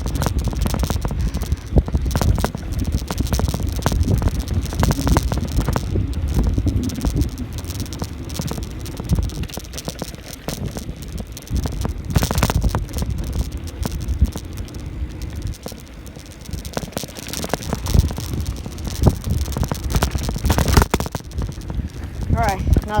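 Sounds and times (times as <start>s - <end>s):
bicycle rattling: 0.0s - 23.0s
tyres rumbling: 0.0s - 23.0s
wind on microphone: 0.0s - 23.0s.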